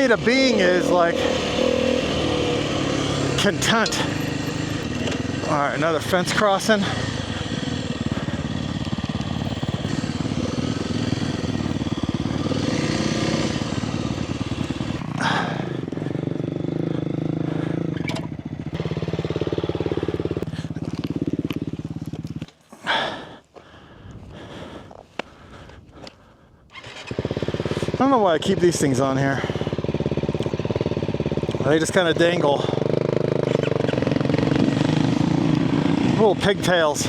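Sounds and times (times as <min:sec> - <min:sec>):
dirt bike engine running: 0:00.0 - 0:37.0.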